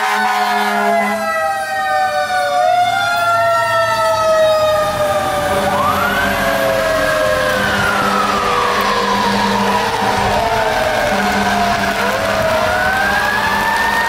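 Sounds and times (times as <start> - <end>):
fire engine sirens wailing: 0.0 - 14.0
truck engine rumble: 1.8 - 14.0.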